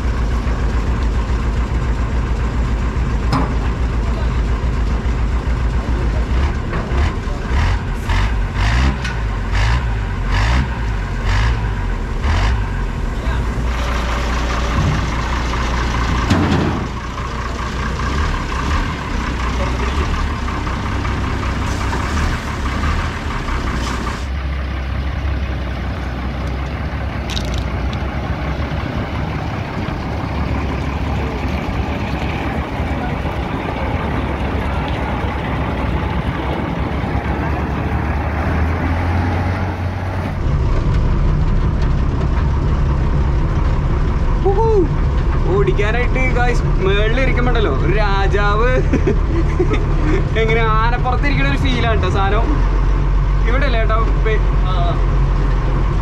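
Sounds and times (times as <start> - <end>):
truck diesel engine rumbling: 0.0 - 56.0.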